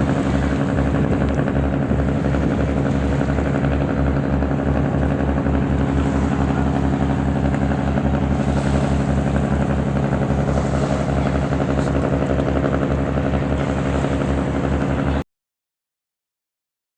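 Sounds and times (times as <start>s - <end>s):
engine running with fast chug: 0.0s - 15.2s.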